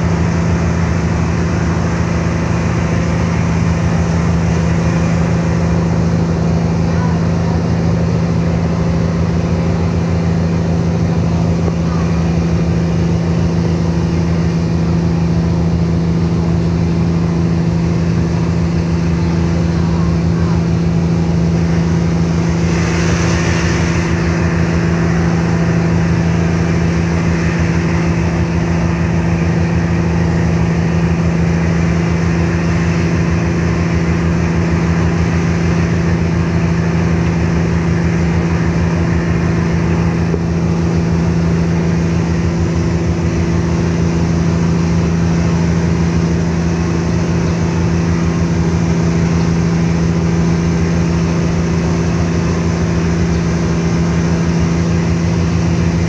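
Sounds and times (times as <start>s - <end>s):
ship diesel engines droning: 0.0s - 56.0s
wind and water rushing: 0.0s - 56.0s.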